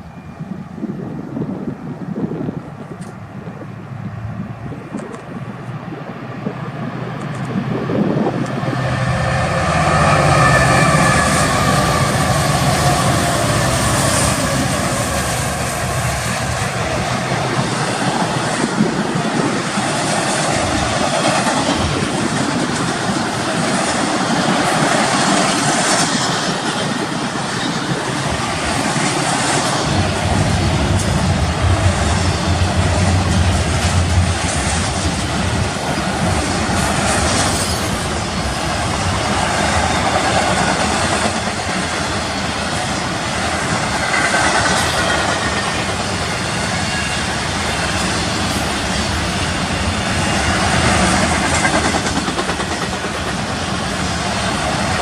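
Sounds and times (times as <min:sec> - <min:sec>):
diesel locomotive engines: 0:00.0 - 0:55.0
freight train rolling roar: 0:00.0 - 0:55.0.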